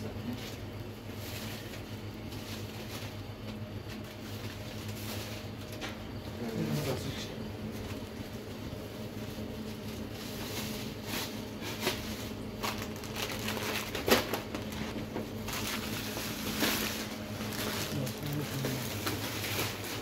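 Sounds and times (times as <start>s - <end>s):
plastic bags rustling and crinkling: 0.0s - 20.0s.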